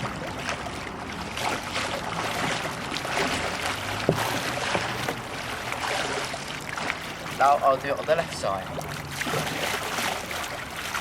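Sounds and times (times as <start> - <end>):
paddle splashing in water: 0.0 - 11.0.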